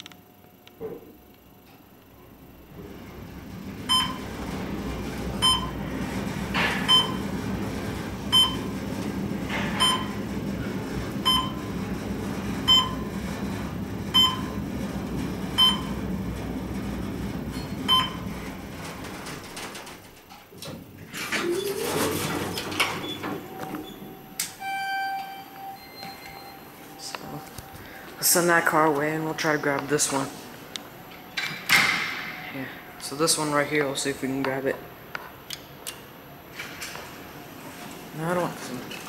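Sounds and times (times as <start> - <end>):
elevator hum and rumble: 0.0 - 39.0.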